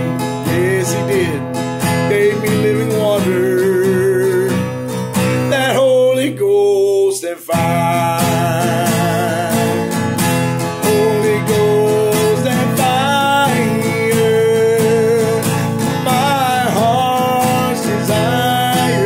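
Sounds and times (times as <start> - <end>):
man singing: 0.0 - 19.0
strummed acoustic guitar: 0.0 - 19.0.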